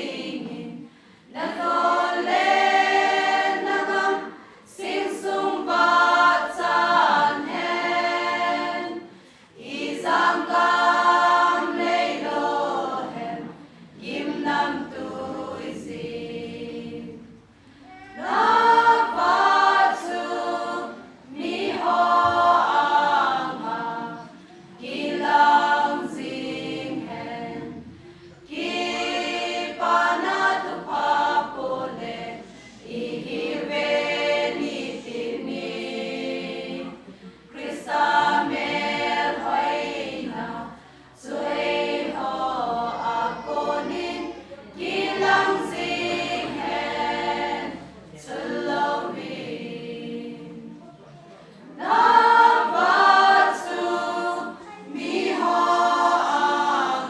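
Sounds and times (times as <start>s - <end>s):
women's choir singing: 0.0s - 57.0s.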